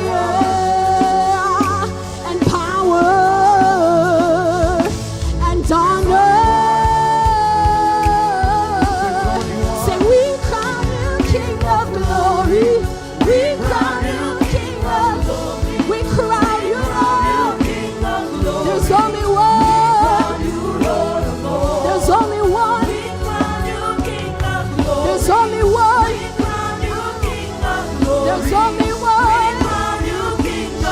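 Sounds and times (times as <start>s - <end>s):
band with drums and bass: 0.0s - 30.9s
singers with vibrato: 0.0s - 30.9s.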